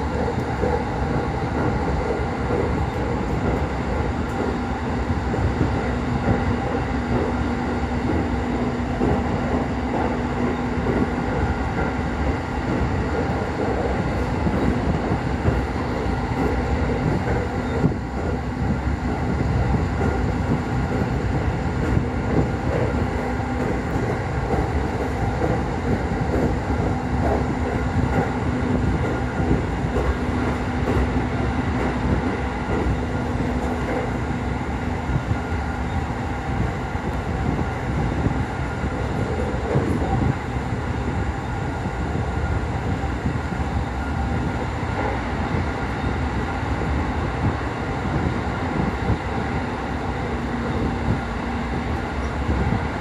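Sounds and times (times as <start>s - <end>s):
train wheels running on rail: 0.0s - 53.0s.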